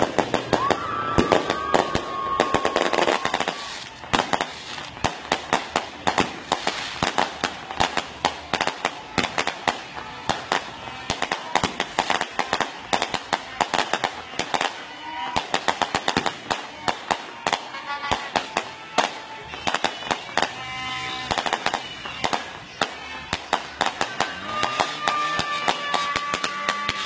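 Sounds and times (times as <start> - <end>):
fireworks popping and crackling: 0.0 - 27.0.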